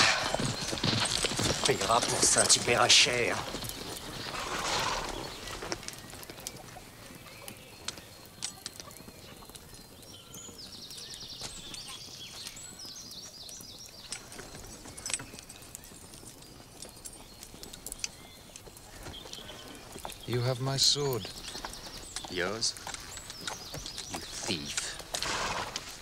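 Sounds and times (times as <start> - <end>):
horse hooves on grass: 0.0 - 26.0.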